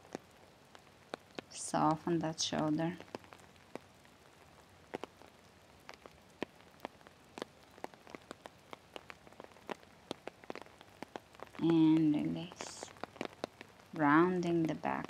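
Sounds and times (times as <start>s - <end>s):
faint steady hiss: 0.0s - 15.0s
raindrops tapping and dripping: 0.0s - 15.0s.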